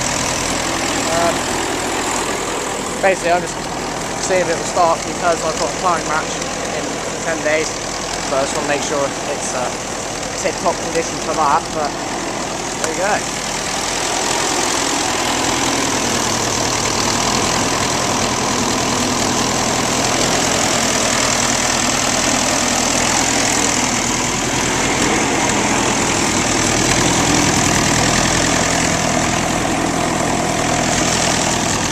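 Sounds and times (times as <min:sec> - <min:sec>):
diesel engine idling: 0:00.0 - 0:31.9.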